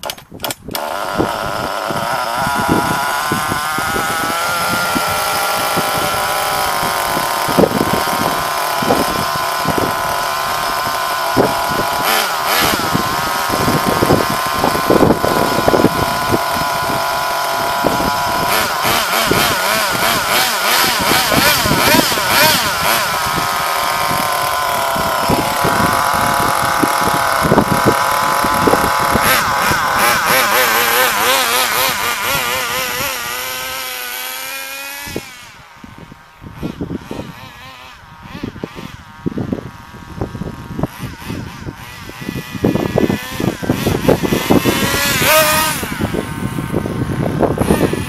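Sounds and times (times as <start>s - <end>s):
rc car motor at high revs: 0.0s - 48.0s.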